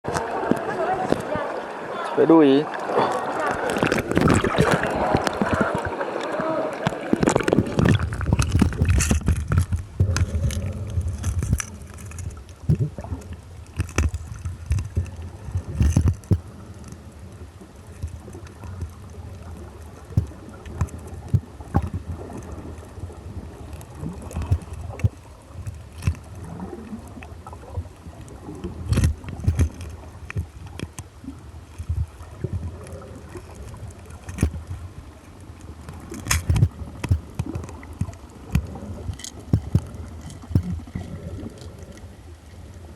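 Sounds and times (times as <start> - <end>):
knocks and splashes: 0.0 - 1.5, 2.8 - 16.6, 17.9 - 31.2, 31.8 - 35.1, 35.8 - 41.8
muffled water sloshing and gurgling: 0.0 - 42.9.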